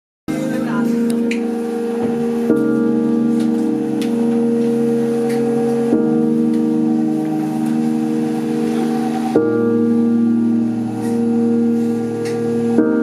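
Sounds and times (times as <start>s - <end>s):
keyboard playing held chords: 0.3s - 13.0s.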